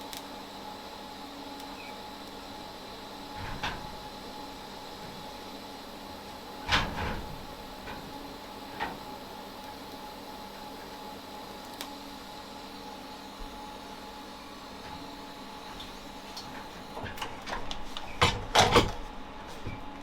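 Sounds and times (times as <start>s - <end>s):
steady hum with held tones: 0.0s - 20.0s.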